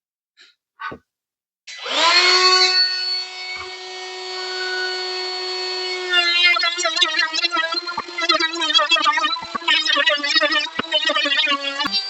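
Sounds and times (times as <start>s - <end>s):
wood router whine: 1.7s - 12.0s.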